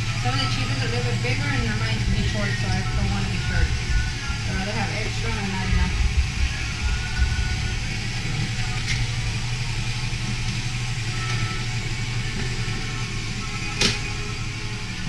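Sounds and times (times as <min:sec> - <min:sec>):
stand mixer running: 0:00.0 - 0:15.0.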